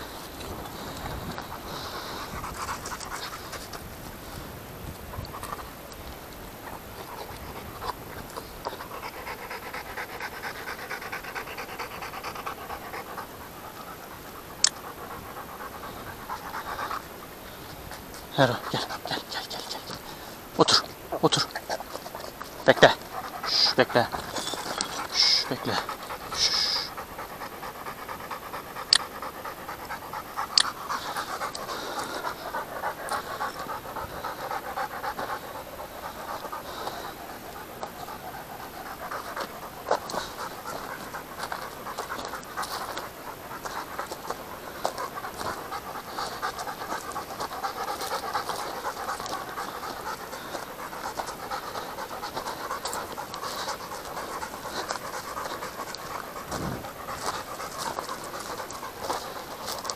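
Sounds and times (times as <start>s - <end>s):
dog panting: 0.0s - 59.9s.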